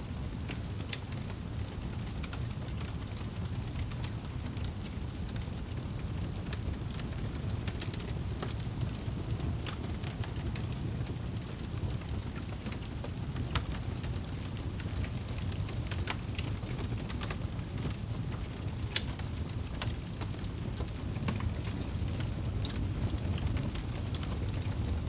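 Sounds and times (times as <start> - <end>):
fire flames rumbling: 0.0 - 25.0
burning logs popping: 0.1 - 25.0.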